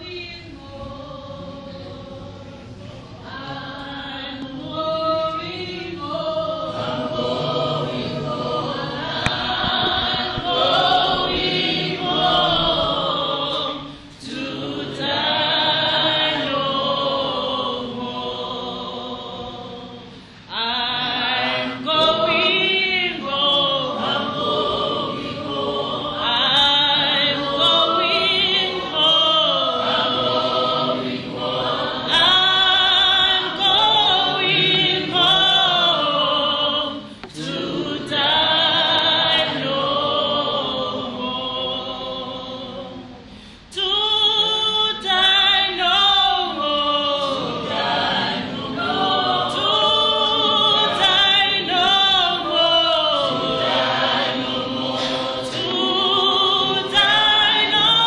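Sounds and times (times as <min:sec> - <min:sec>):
choir singing: 0:00.0 - 0:43.2, 0:44.3 - 0:58.0.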